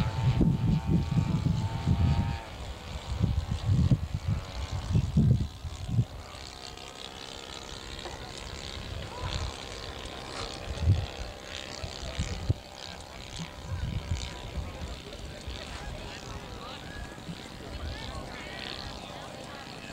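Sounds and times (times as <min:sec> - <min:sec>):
model airplane engine buzzing: 0:00.0 - 0:19.9.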